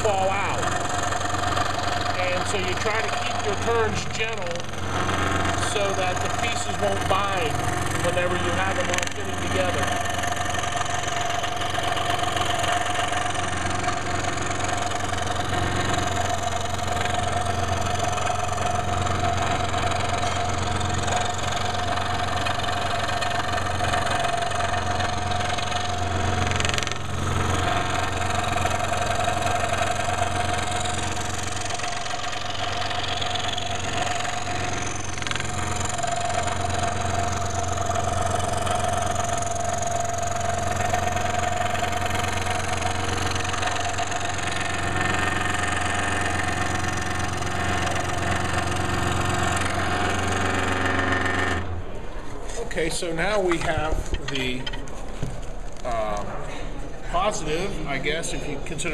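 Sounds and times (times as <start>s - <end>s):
electric saw cutting wood: 0.0s - 51.8s.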